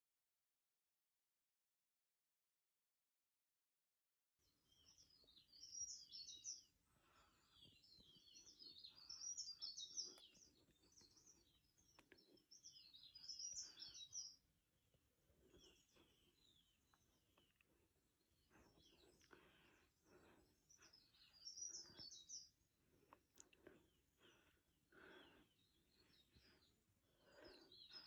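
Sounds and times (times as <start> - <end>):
faint birds chirping: 4.4 - 28.0.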